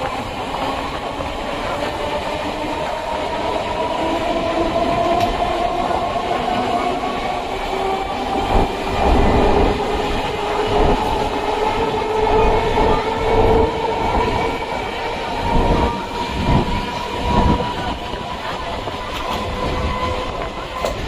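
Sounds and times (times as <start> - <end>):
steady train whine: 0.0 - 21.0
train wheels rumbling on rail: 0.0 - 21.0.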